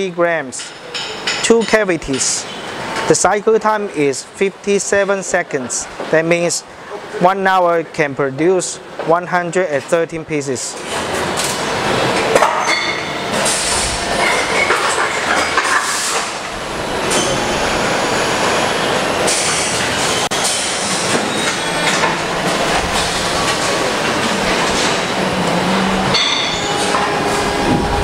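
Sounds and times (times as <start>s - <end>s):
factory machinery running: 0.0s - 28.0s.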